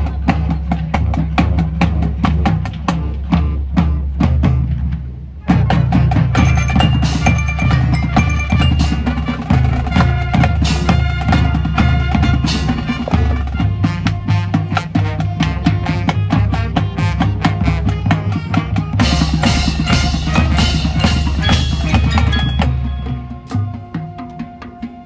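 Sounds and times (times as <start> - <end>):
bass drums: 0.0 - 24.0
marching band playing: 0.0 - 25.0.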